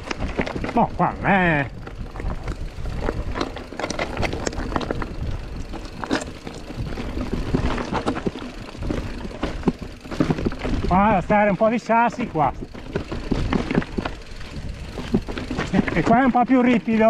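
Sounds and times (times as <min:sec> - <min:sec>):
bike and stones rattling: 0:00.0 - 0:17.0
tyres rumbling on stony trail: 0:00.0 - 0:17.0.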